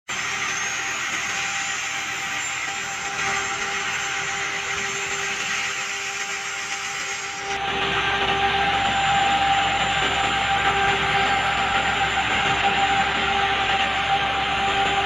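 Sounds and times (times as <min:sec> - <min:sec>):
wire saw cutting concrete: 0:00.1 - 0:15.0.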